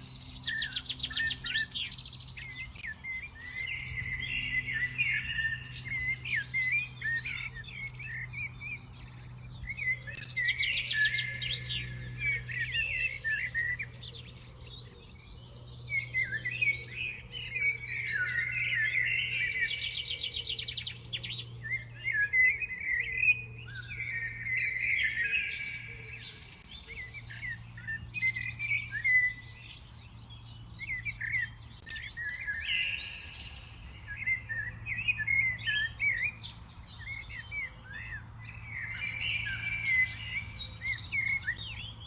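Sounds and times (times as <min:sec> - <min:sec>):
songbirds chirping and singing: 0:00.0 - 0:42.0.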